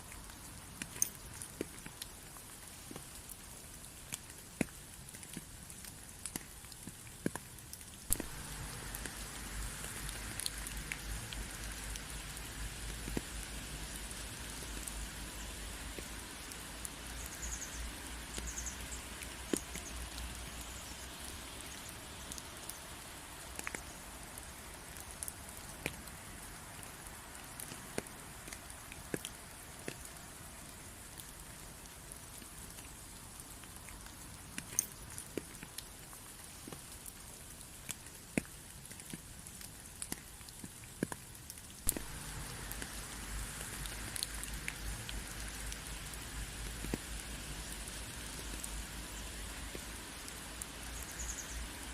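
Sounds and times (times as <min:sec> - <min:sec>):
raindrops ticking sharply: 0:00.0 - 0:51.9
steady rain falling: 0:00.0 - 0:51.9.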